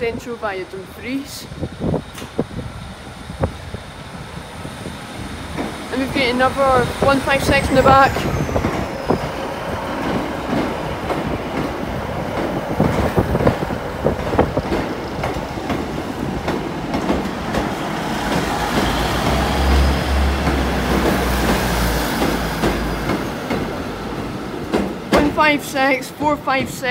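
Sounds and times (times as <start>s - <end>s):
deep train engine rumble: 0.0s - 26.9s
train wheels clicking over rail joints: 2.0s - 2.5s, 5.4s - 26.9s.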